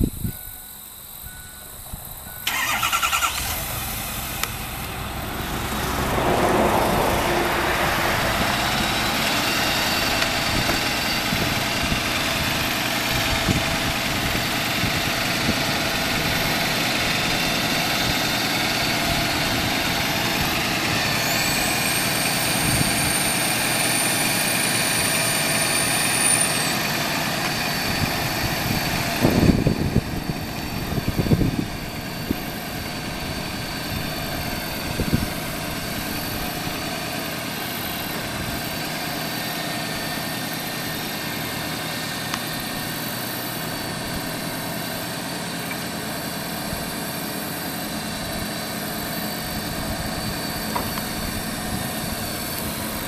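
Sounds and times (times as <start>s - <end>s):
truck engine starting and running: 0.0s - 53.0s.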